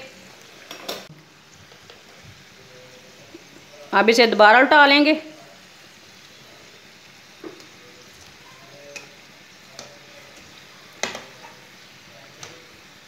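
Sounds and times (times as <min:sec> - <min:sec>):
deep-frying sizzle: 0:00.0 - 0:13.0.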